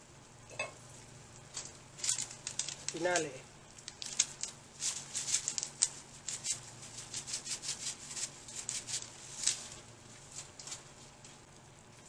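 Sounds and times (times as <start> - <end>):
mushrooms crackling in a pot: 0.5 - 12.0.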